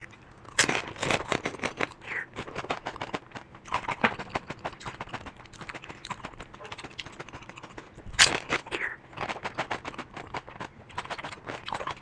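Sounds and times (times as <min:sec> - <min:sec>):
crisp chewing crunches: 0:00.0 - 0:12.0.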